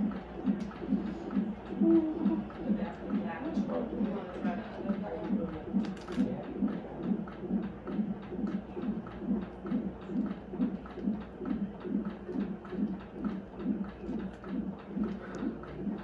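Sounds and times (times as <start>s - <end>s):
whooshing heartbeat pulse: 0.0s - 16.0s.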